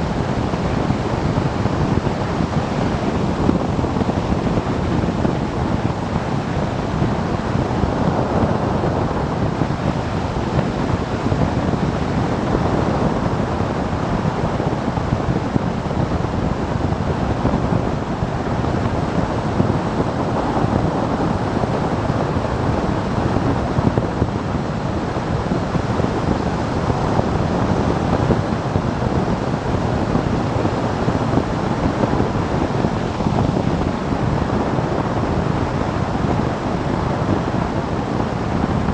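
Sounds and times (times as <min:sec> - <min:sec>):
motorcycle engine and road noise: 0:00.0 - 0:38.9
wind buffeting microphone: 0:00.0 - 0:38.9.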